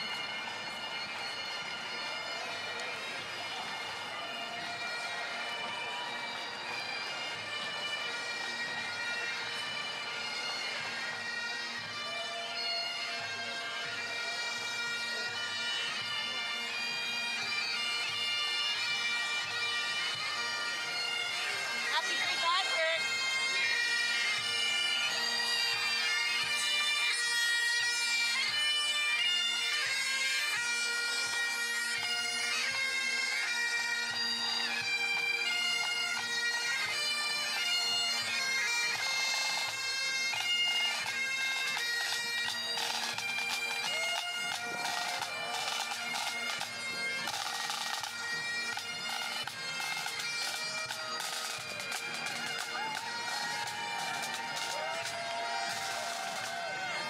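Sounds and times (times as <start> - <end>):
bagpipes playing a tune: 0.0 - 57.0.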